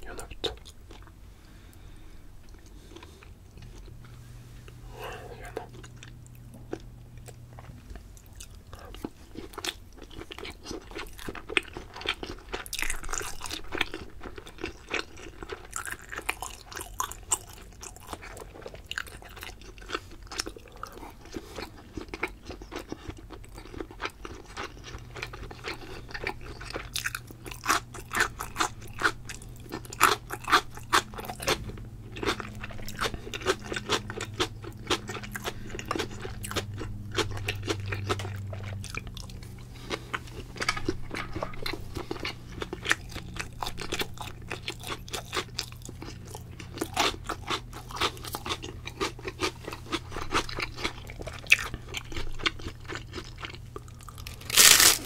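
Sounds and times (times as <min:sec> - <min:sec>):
chewing with wet mouth clicks: 0:05.4 - 0:54.9.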